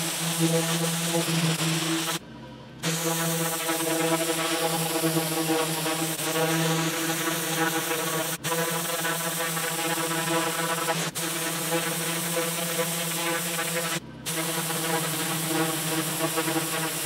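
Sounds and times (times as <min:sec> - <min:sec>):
pressure washer pump hum: 0:00.0 - 0:17.0.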